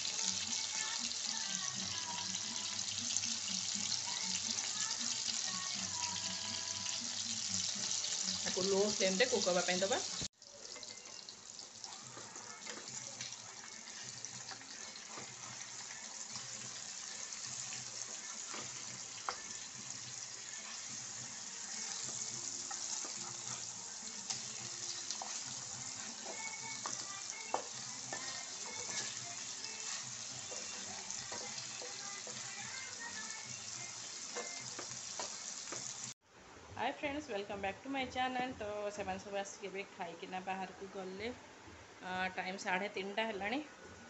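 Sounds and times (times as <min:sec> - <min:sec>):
fish sizzling in oil: 0:00.0 - 0:36.2.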